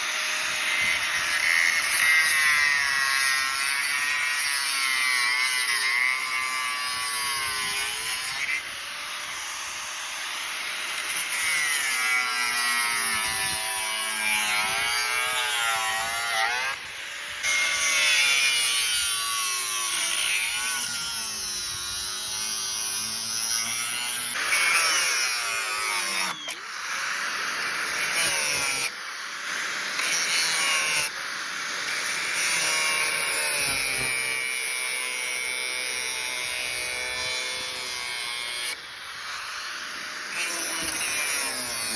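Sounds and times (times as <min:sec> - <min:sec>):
angle grinder cutting metal: 0:00.0 - 0:41.9.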